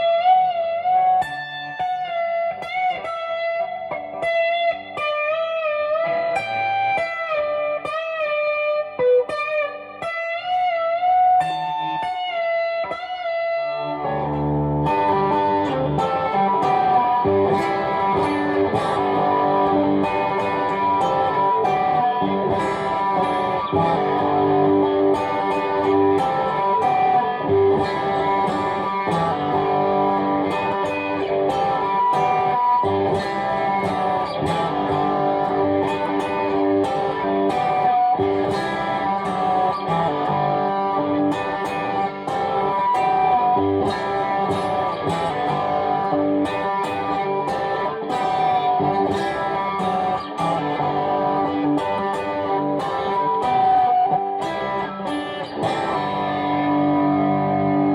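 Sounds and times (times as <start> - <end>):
electric guitar strumming chords: 0.0 - 57.9.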